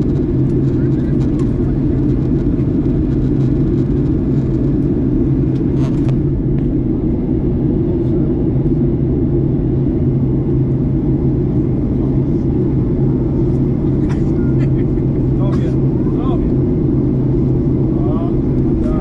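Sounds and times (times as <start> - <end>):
airplane cabin engine drone: 0.0 - 19.0.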